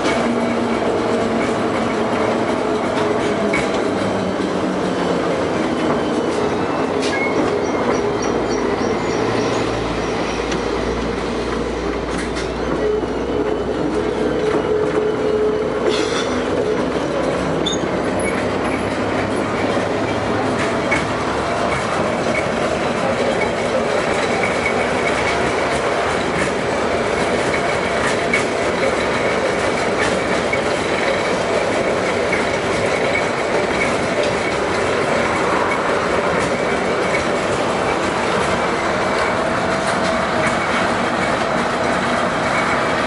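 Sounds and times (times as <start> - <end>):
rail joint clicks: 0.0 - 43.0
tram wheels rumbling: 0.0 - 43.0.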